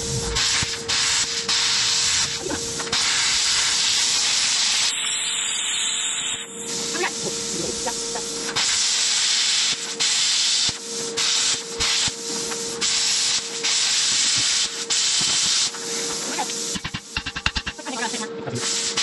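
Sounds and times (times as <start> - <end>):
cutting torch hissing: 0.0 - 19.0
steady hum: 0.0 - 19.0.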